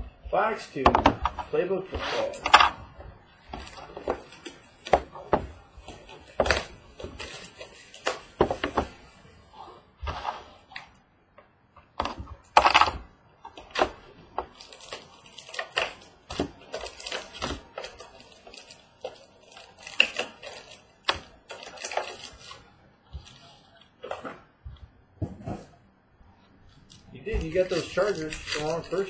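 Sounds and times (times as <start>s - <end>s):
packaging crackling and rustling: 2.1s - 10.8s, 12.3s - 24.5s, 26.7s - 29.0s.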